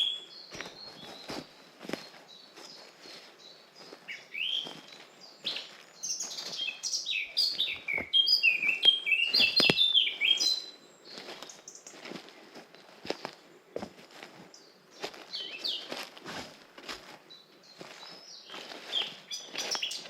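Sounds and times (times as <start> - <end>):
songbird singing: 0.0 - 16.2, 17.1 - 20.0
footsteps on forest path: 0.0 - 20.0.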